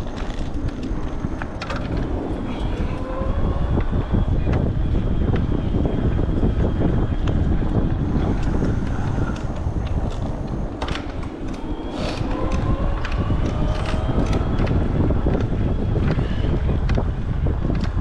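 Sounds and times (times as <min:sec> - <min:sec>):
faint rising whine: 0:00.0 - 0:18.0
wind rushing over microphone: 0:00.0 - 0:18.0.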